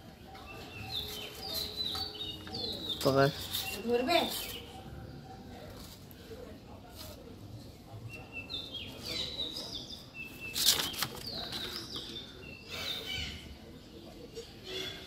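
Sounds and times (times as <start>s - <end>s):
small birds chirping: 0.0s - 6.3s, 7.6s - 15.0s.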